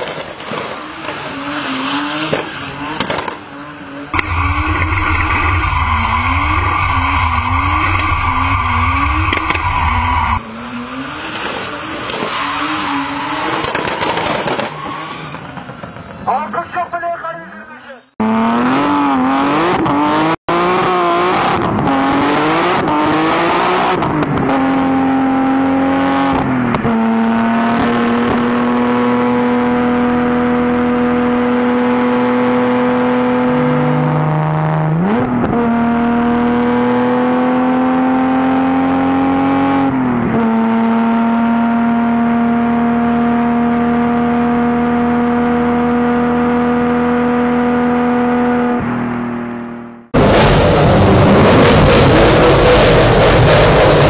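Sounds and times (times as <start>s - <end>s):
car engine revving: 4.1s - 12.1s, 18.2s - 54.0s.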